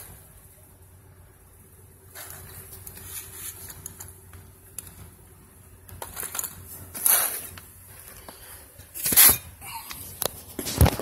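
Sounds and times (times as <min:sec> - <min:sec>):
faint steady motor whine: 0:00.0 - 0:11.0.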